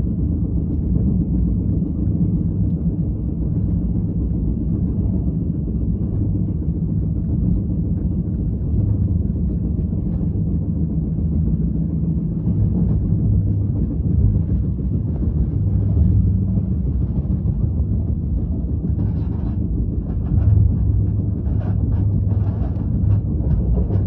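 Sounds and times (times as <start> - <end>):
low mechanical rumble: 0.0 - 24.0.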